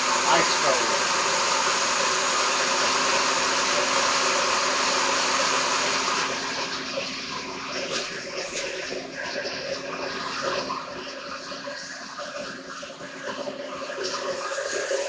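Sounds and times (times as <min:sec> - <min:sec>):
blender motor whirring: 0:00.0 - 0:15.0.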